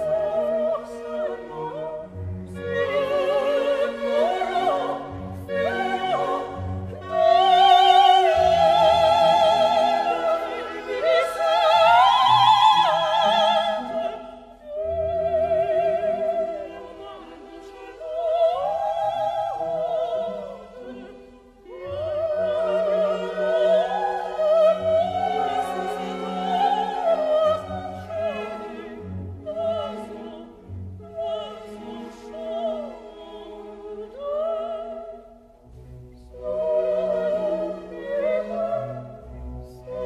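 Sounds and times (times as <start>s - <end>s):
operatic singer with vibrato: 0.0s - 35.5s, 36.3s - 40.0s
orchestral accompaniment: 0.0s - 40.0s.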